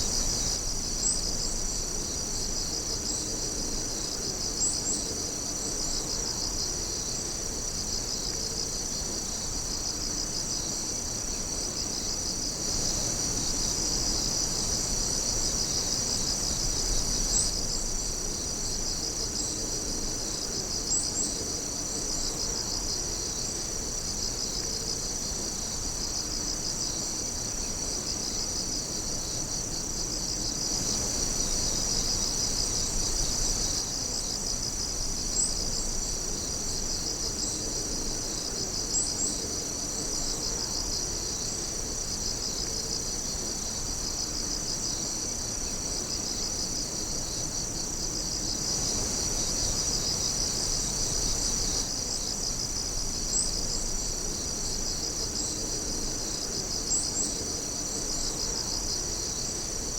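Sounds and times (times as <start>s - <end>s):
night insects chirping: 0.0s - 59.9s
sharp cricket chirps: 0.0s - 59.9s.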